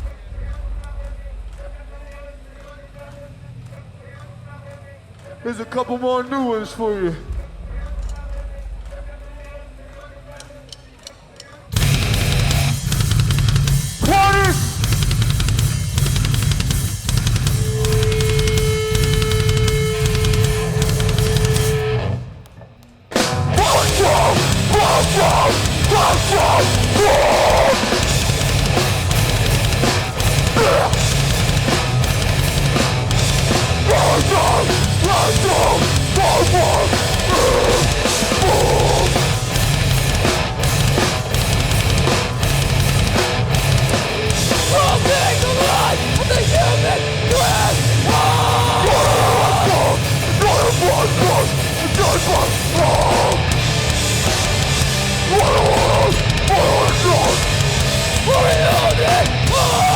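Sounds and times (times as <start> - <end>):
pounding drums: 0.0 - 4.6, 6.8 - 59.9
distorted guitars: 5.5 - 59.9.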